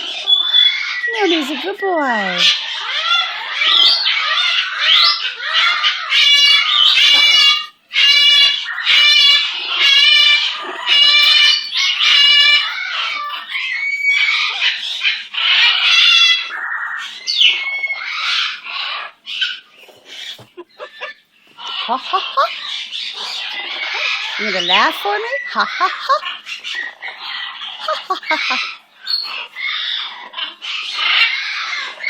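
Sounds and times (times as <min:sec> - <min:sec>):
parrot chattering calls: 0:00.0 - 0:32.0.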